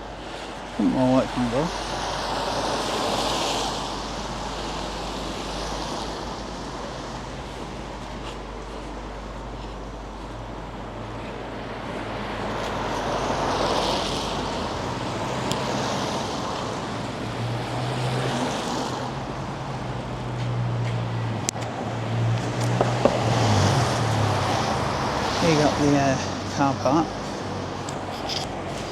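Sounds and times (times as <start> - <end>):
traffic noise: 0.0 - 28.9
vehicle engine humming nearby: 0.0 - 28.9.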